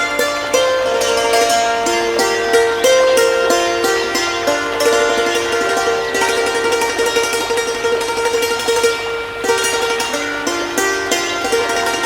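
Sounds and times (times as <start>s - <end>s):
hammered dulcimer melody: 0.0s - 12.0s.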